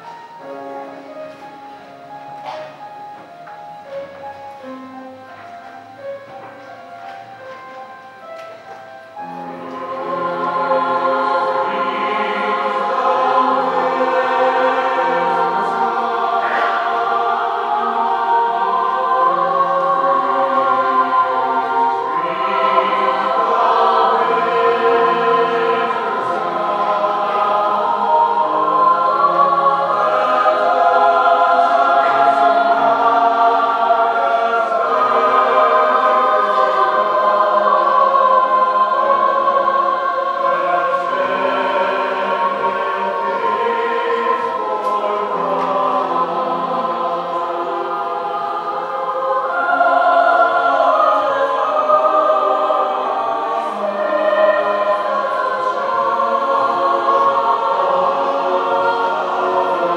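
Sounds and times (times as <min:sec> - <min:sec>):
choir singing long chords: 0:00.0 - 0:59.9.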